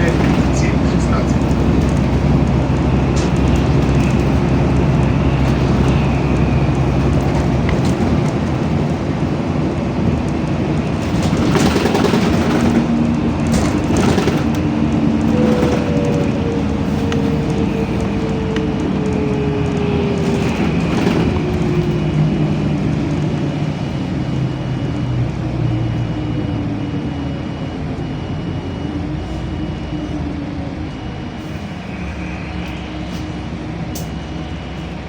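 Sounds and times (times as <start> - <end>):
bus engine drone: 0.0 - 35.0
falling whine: 0.0 - 35.0
road rumble: 0.0 - 35.0.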